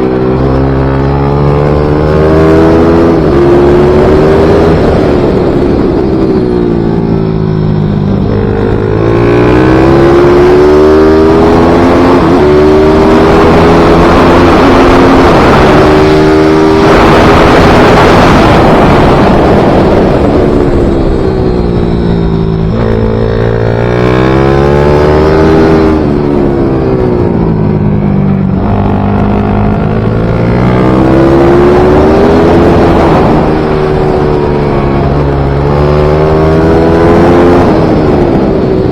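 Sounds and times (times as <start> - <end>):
racing motorcycle engine: 0.0 - 38.9.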